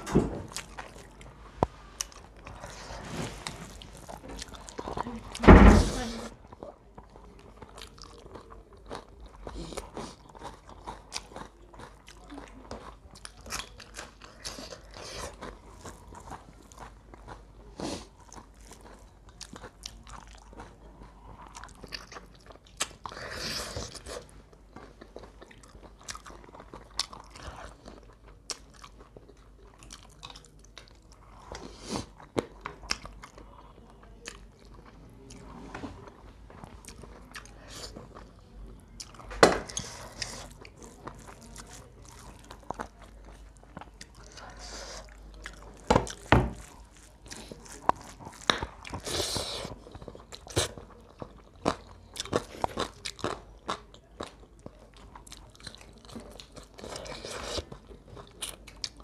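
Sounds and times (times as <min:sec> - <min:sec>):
chewing and crunching fried chicken: 0:00.0 - 0:05.4, 0:06.3 - 0:59.0.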